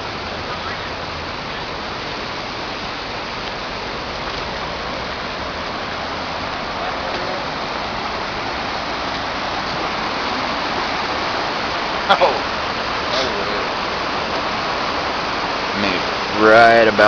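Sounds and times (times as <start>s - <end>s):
roar of fast-flowing river: 0.0s - 17.0s.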